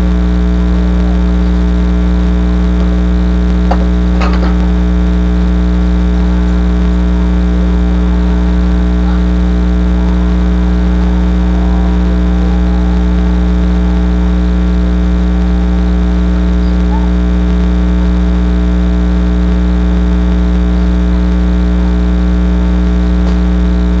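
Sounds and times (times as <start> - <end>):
loud electrical hum: 0.0 - 24.0.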